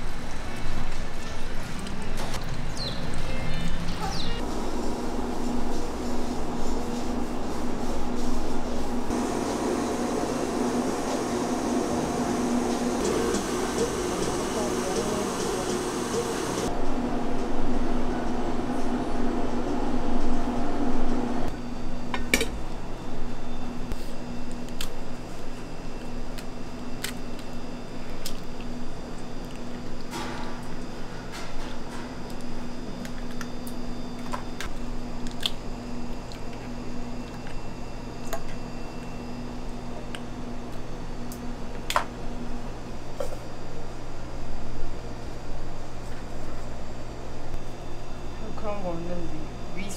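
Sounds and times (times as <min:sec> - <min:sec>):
fan humming: 0:00.0 - 0:49.9.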